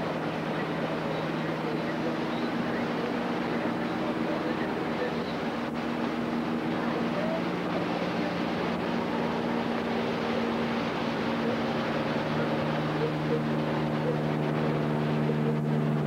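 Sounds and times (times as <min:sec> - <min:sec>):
propeller plane engine droning: 0:00.0 - 0:16.0
surf and wind hiss: 0:00.0 - 0:16.0.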